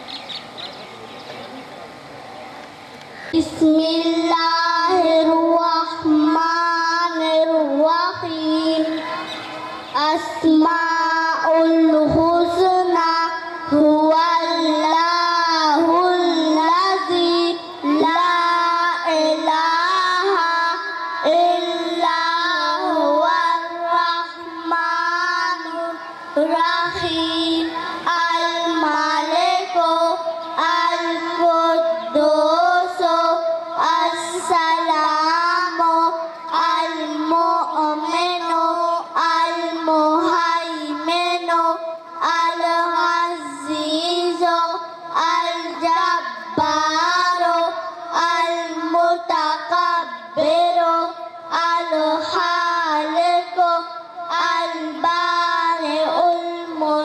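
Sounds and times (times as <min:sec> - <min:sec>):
girl singing: 0:03.4 - 0:09.3, 0:09.9 - 0:57.0.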